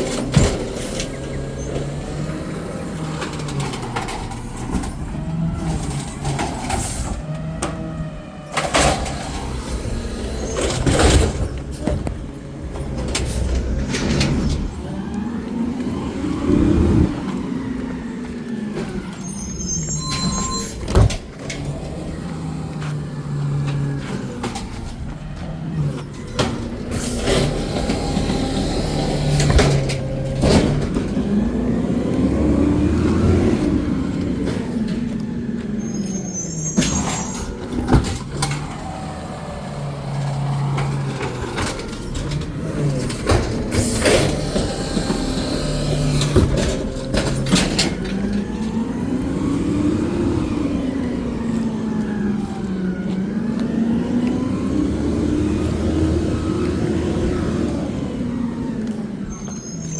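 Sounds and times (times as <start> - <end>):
garbage truck engine revving: 0.0 - 59.9.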